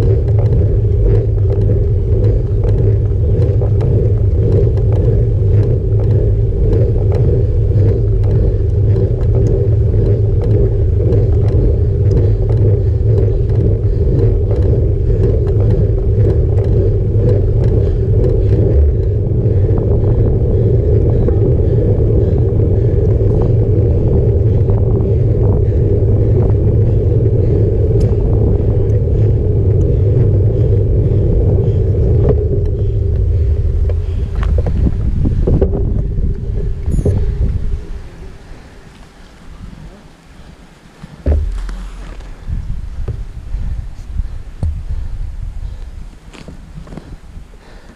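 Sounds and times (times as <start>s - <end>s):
light ticks from road surface: 0.0s - 20.3s, 25.6s - 37.6s, 38.6s - 42.4s, 45.6s - 47.9s
bike tyres rumbling on rough asphalt: 0.0s - 47.9s.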